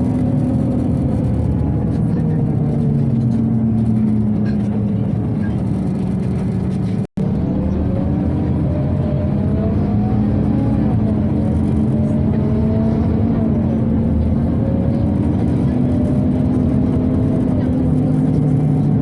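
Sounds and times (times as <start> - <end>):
bus drivetrain whine: 0.0 - 19.0.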